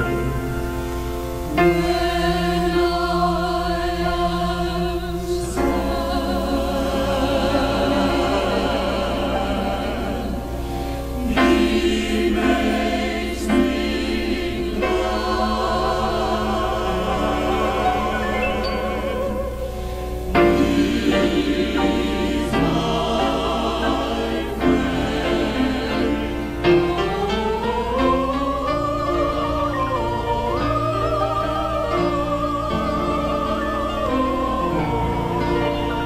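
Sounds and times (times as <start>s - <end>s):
choir singing: 0.0s - 36.0s.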